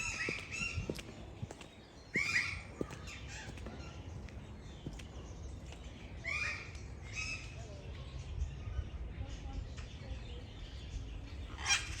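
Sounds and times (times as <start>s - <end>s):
background bird sounds: 0.0s - 12.0s.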